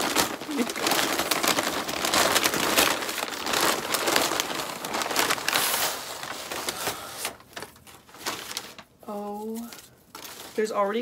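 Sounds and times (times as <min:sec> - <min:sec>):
paper wrapping crinkling: 0:00.0 - 0:11.0.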